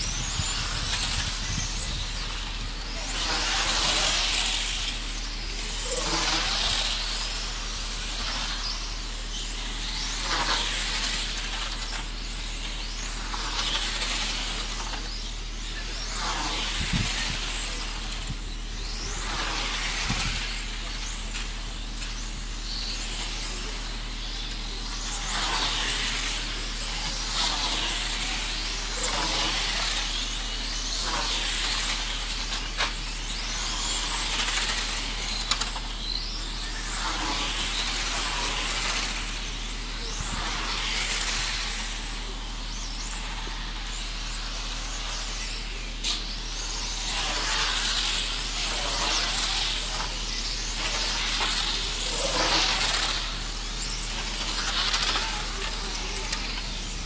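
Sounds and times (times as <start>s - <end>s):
rc cars motors whining past: 0.0s - 57.0s.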